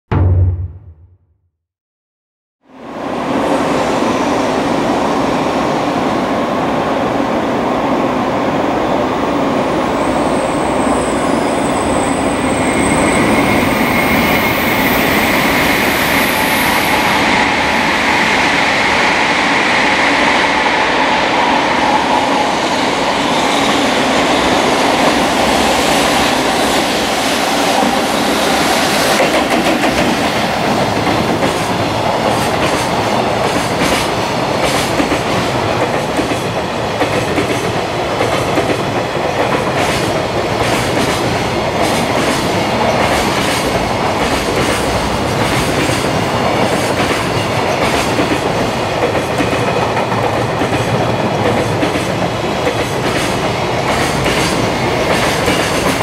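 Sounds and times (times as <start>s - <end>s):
freight train wheels rumbling: 3.4s - 56.0s.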